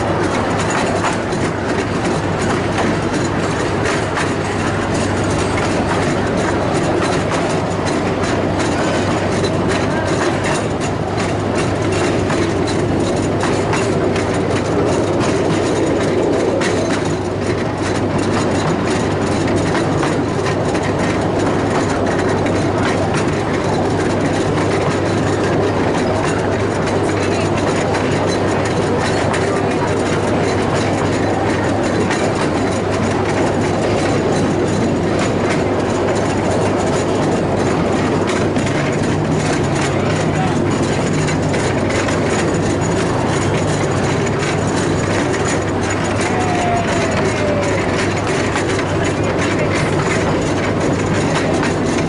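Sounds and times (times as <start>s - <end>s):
fast clicking of wheels: 0.0s - 52.0s
train wheels rumbling on rails: 0.0s - 52.0s.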